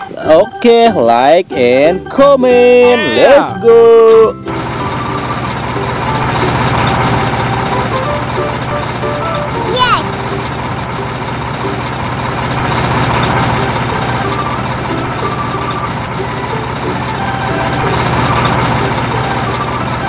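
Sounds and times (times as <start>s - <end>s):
truck engine running: 1.7s - 20.0s.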